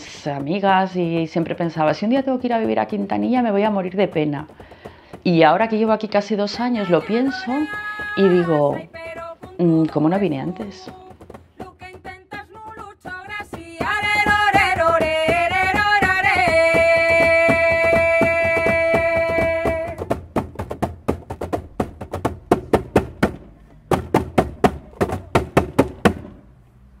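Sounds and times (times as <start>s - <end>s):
hand percussion beat: 0.0s - 26.4s.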